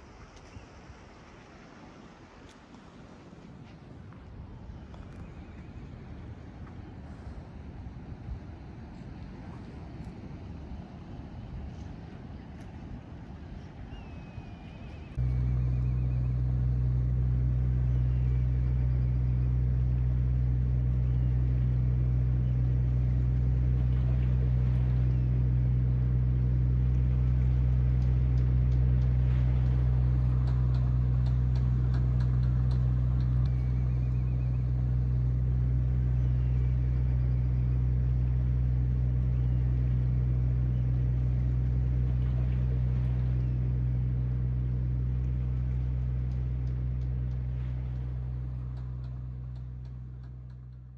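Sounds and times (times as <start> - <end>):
boat diesel engine drone: 0.0 - 50.9.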